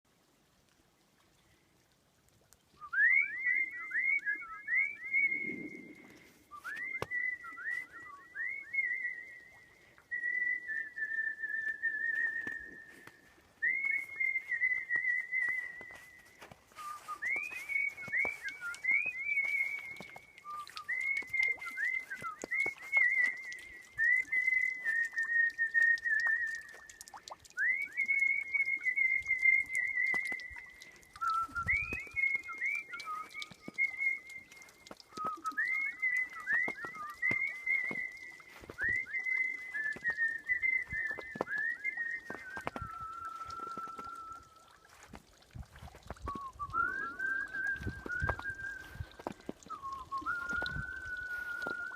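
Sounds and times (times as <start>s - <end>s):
person whistling a melody: 2.8s - 51.9s.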